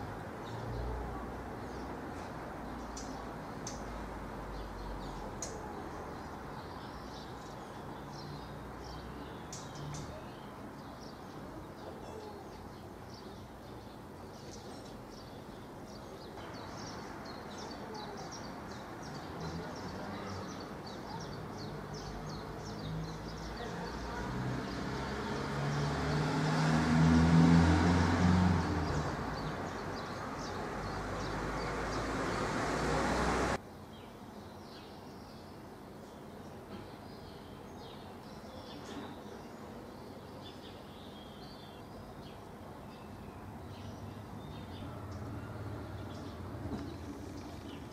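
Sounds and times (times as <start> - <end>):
birds chirping: 0.0 - 27.0, 27.6 - 47.9.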